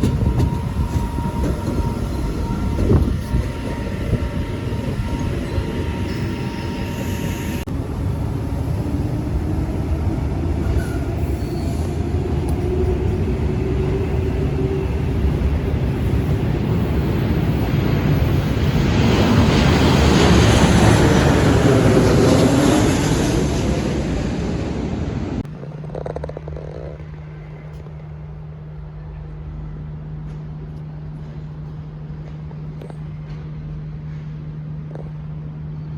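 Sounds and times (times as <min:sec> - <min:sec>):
electric train rumbling past: 0:00.0 - 0:35.9.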